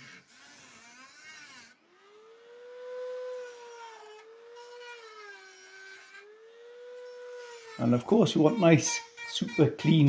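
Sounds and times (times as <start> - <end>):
rotary tool cutting steel: 0.0 - 10.0.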